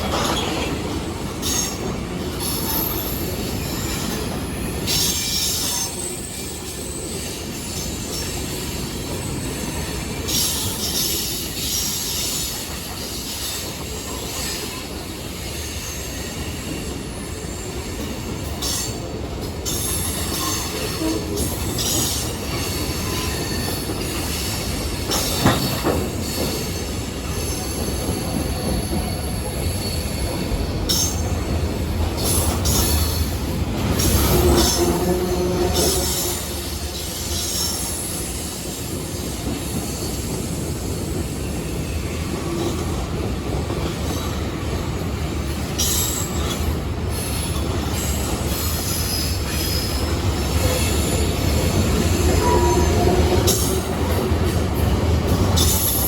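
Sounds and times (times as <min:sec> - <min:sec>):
train rumbling on rails: 0:00.0 - 0:56.0
train wheels squealing: 0:00.0 - 0:56.0.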